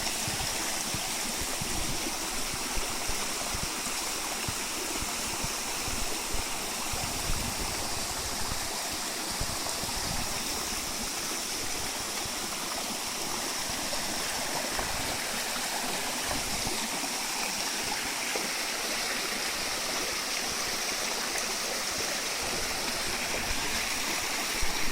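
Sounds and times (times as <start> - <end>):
waterfall pouring and splashing: 0.0 - 24.9.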